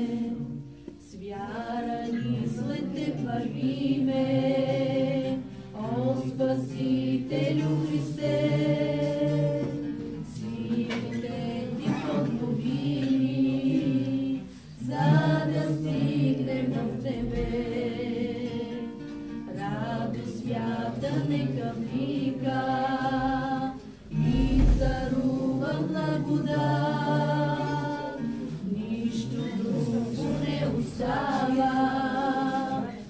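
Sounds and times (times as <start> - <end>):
congregation singing a hymn: 0.0 - 33.0.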